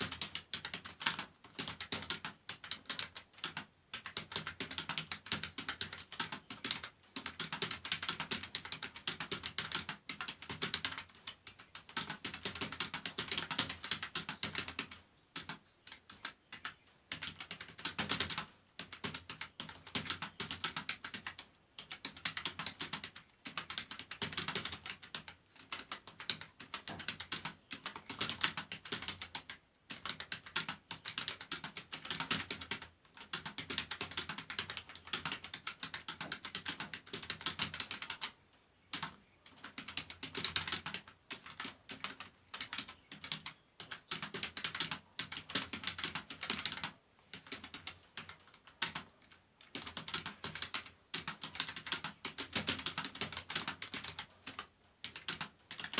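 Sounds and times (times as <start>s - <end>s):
fast typing on keyboard: 0.0s - 55.9s.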